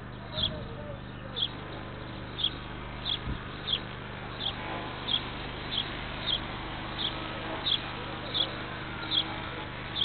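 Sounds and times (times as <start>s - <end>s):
small bird chirping: 0.0s - 10.0s
steady low hum: 0.0s - 10.0s.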